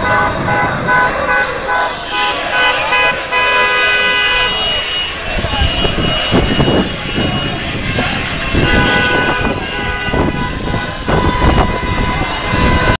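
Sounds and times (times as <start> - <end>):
car horns honking: 0.0 - 13.0
street crowd noise: 0.0 - 13.0.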